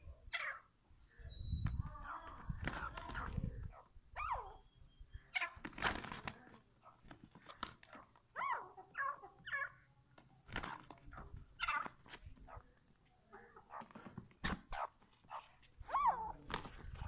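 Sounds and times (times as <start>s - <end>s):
rooster and partridge squawking: 0.2s - 1.2s, 1.8s - 6.1s, 6.8s - 17.0s.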